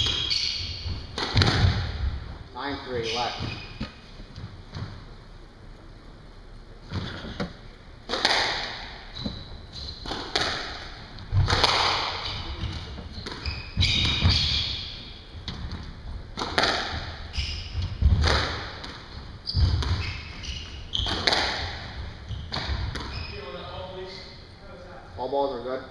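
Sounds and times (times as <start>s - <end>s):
squash ball hitting racquets and walls: 0.0s - 5.0s, 6.8s - 23.8s.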